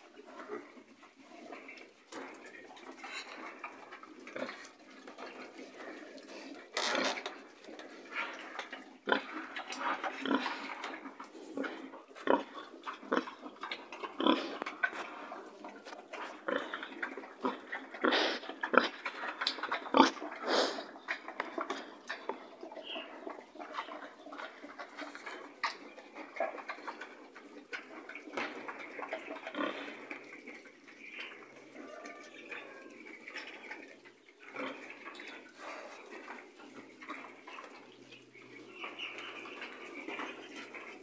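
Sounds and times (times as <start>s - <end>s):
pigs grunting and snuffling: 0.0s - 41.0s.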